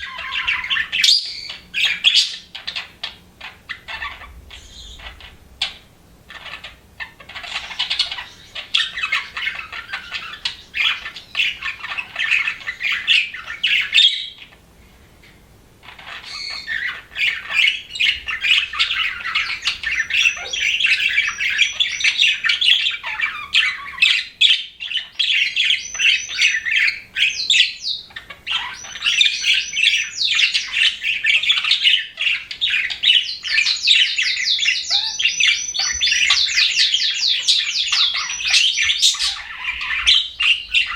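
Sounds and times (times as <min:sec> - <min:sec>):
budgerigars chirping and warbling: 0:00.0 - 0:14.6, 0:15.8 - 0:40.9.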